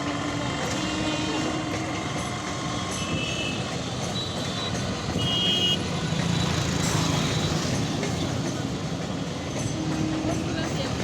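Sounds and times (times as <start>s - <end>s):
train engine humming: 0.0s - 11.0s.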